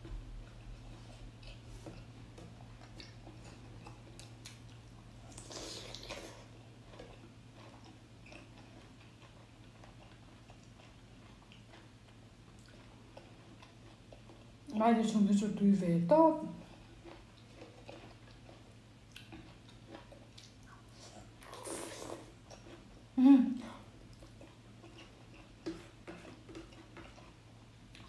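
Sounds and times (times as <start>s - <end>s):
person chewing food: 0.0s - 14.7s, 16.6s - 28.0s.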